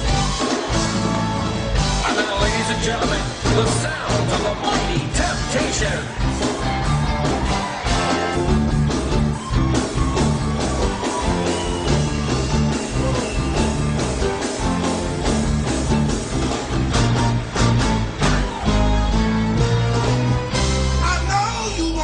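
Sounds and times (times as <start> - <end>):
electric guitar: 0.0 - 21.0
steady drum beat: 0.0 - 21.2
live band playing upbeat music: 0.0 - 22.0.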